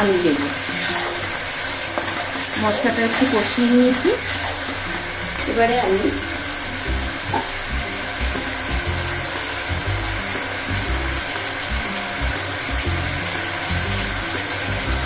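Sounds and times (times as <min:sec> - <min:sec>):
background music: 0:00.0 - 0:15.0
paste sizzling in hot oil: 0:00.0 - 0:15.0.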